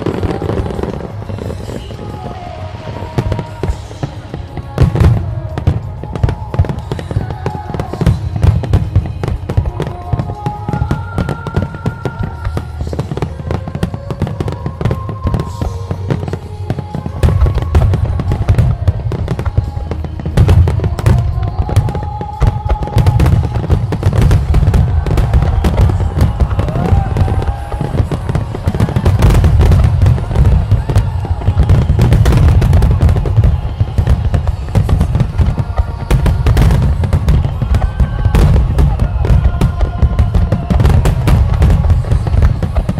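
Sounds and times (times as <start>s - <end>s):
fireworks bursts and bangs: 0.0s - 42.9s.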